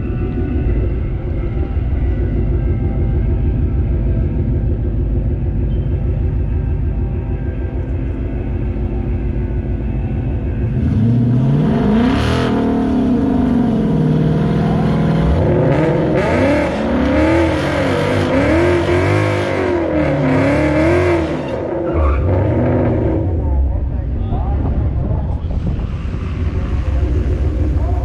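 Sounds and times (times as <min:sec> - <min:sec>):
car engine accelerating hard: 0:00.0 - 0:28.0.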